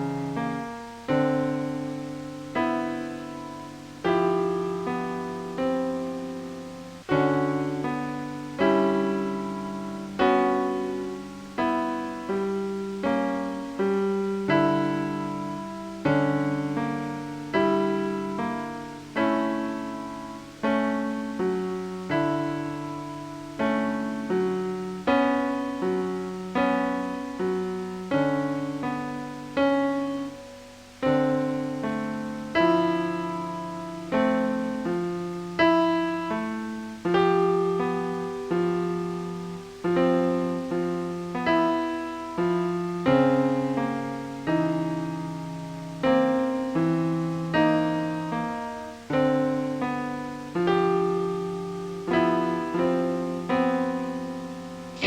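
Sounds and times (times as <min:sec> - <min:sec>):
slow piano music: 0:00.0 - 0:55.0.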